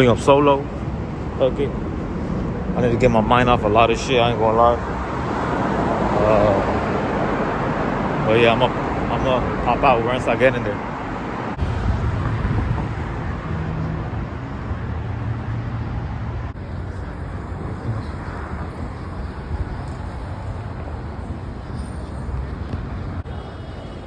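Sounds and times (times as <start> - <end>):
passing vehicles rumble: 0.0 - 24.0.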